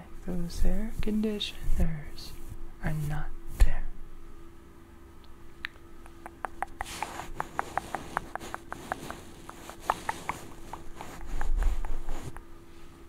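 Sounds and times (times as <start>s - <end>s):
air conditioners humming: 0.0s - 13.0s.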